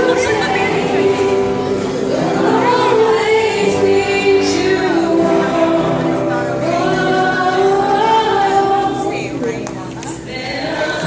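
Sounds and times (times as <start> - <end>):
children's choir singing: 0.0 - 11.0
woman singing into a microphone: 0.0 - 11.0.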